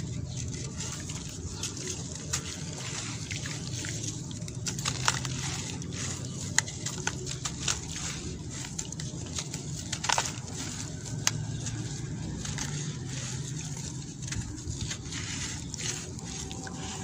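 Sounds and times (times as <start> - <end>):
crumbly block crunching by hand: 0.0 - 17.0
crumbs dropping into water: 0.0 - 17.0.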